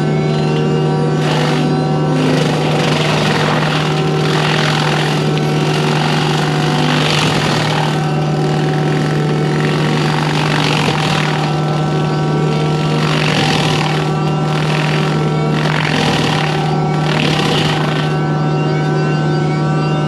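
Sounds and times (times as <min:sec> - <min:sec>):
machine engine drone: 0:00.0 - 0:20.0.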